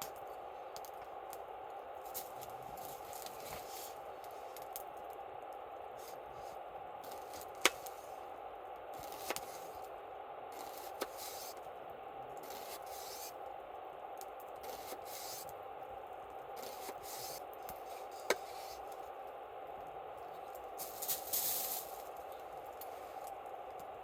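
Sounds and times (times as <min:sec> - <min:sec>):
campfire hissing and crackling: 0:00.0 - 0:24.0.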